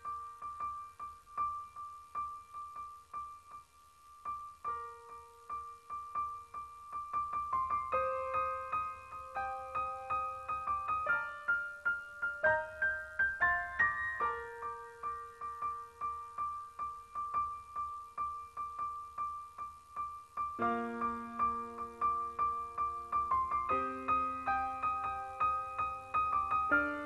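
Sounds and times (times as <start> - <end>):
slow piano music: 0.0 - 27.0.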